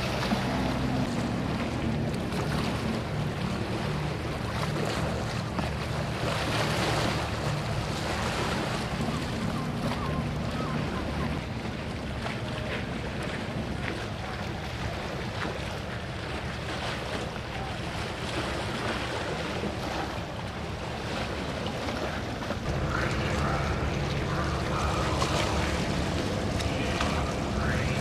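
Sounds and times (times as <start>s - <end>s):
rushing water: 0.0s - 28.0s
wind buffeting microphone: 0.0s - 28.0s.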